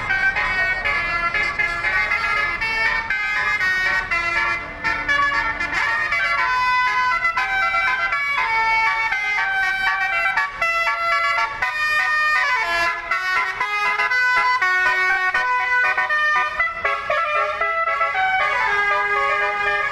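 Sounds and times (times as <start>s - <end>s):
bus musical horn playing tune: 0.0s - 19.9s.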